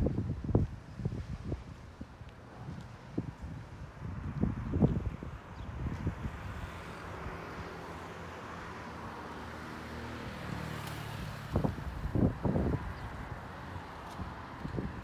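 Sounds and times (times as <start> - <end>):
wind buffeting microphone: 0.0 - 8.1, 10.2 - 15.0
street noise: 0.0 - 15.0.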